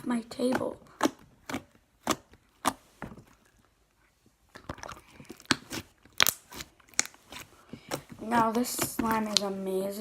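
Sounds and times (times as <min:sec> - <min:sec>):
slime squishing with clicks: 0:00.0 - 0:09.5.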